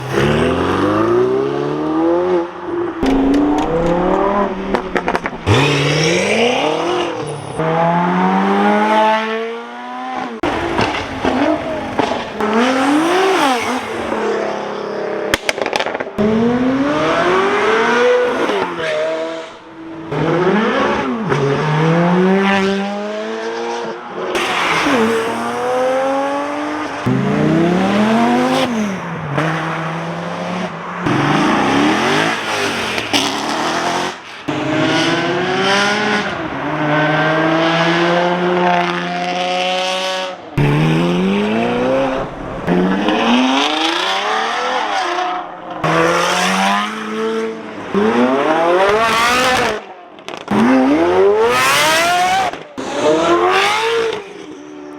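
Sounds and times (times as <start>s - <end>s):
car engines revving and accelerating: 0.0s - 54.9s.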